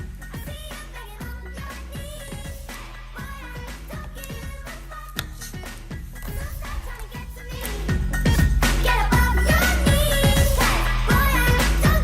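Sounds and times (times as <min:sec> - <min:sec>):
pop music with electronic beat: 0:00.0 - 0:12.0.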